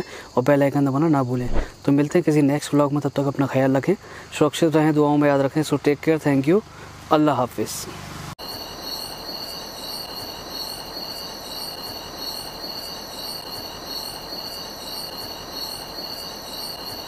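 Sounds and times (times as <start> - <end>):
crickets trilling: 0.0 - 6.7, 8.4 - 17.0.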